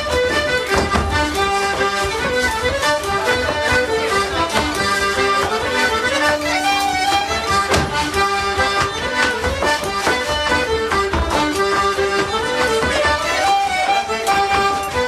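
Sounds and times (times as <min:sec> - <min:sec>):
accordion playing fast tune: 0:00.0 - 0:15.0
fiddle: 0:00.0 - 0:15.0.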